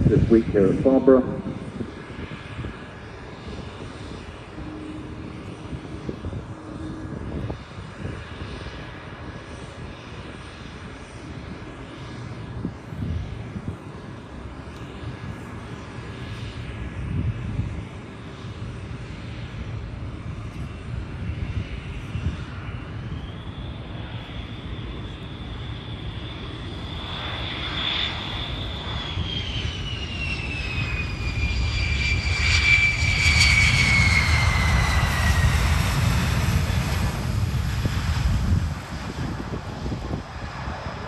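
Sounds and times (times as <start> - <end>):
high turbine whine: 0.0 - 41.0
jet engines running: 0.0 - 41.0.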